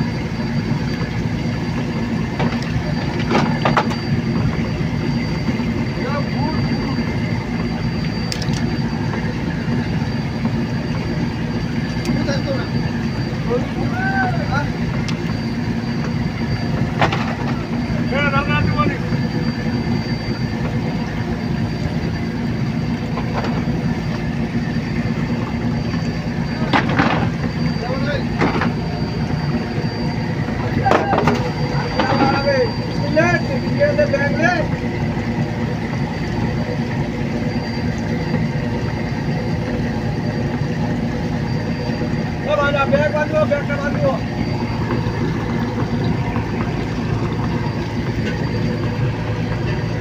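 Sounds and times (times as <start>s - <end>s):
boat engine humming: 0.0s - 50.0s
faint high whine: 0.0s - 50.0s.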